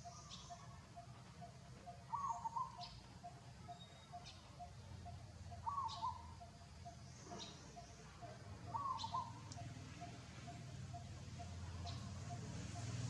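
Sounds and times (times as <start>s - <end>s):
two-part bird call: 0.0s - 12.9s.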